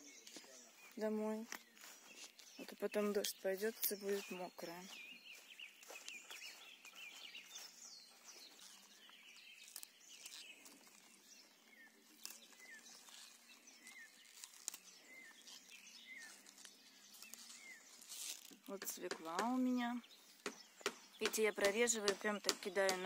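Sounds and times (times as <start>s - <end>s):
leaves snapping and rustling: 0.0s - 4.7s, 8.5s - 23.0s
faint birds chirping: 0.0s - 23.0s.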